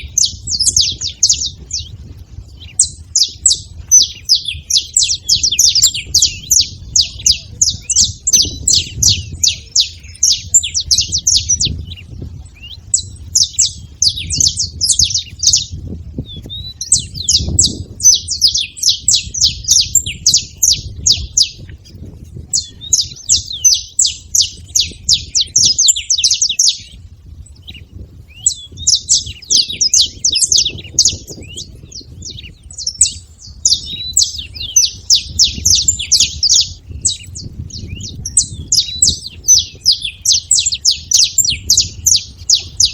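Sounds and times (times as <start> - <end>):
finches chirping: 0.0 - 42.9.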